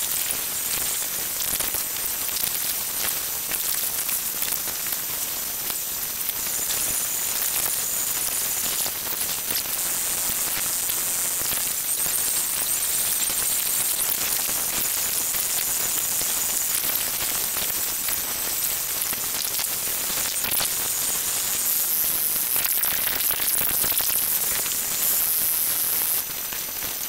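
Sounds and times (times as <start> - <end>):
static hiss and crackle: 0.0 - 27.0.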